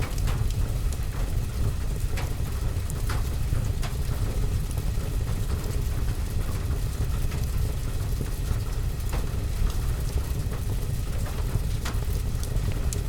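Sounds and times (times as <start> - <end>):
rain on a roof: 0.0 - 13.0.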